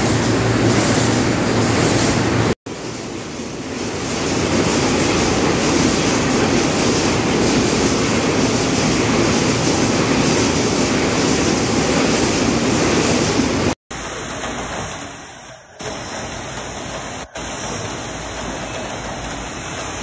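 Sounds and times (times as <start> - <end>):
conveyors and packing machines: 0.0 - 20.0.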